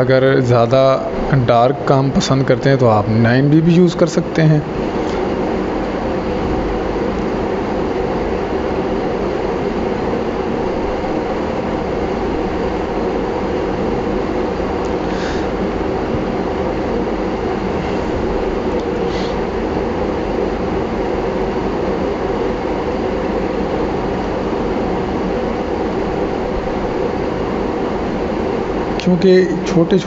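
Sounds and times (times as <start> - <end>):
mechanical drone: 0.0 - 30.0.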